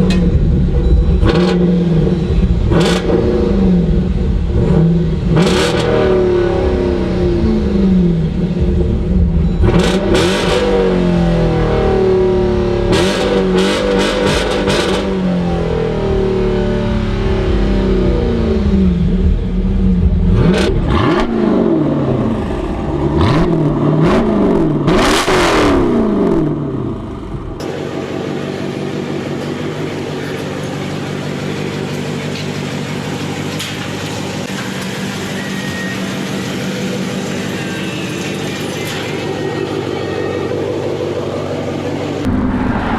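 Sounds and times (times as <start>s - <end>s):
engine revving: 0.0s - 42.9s
exhaust crackles: 0.0s - 42.9s.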